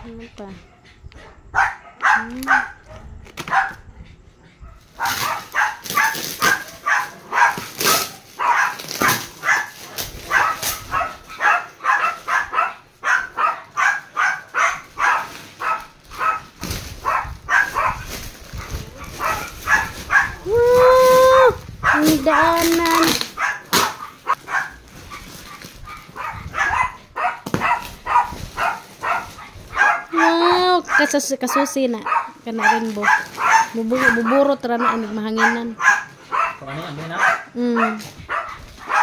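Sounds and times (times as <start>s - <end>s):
dogs barking: 0.4s - 20.6s, 21.8s - 39.0s.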